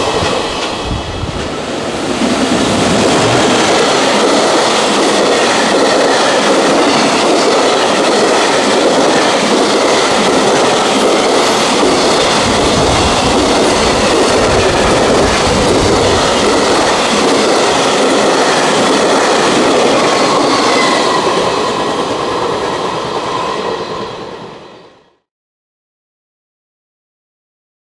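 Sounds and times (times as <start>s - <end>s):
freight train wheels clattering: 0.0s - 23.9s.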